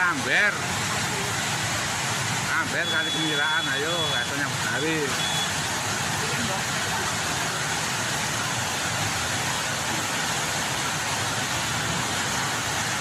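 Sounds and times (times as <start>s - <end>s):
heavy rain: 0.0s - 13.0s
rushing flood water: 0.0s - 13.0s.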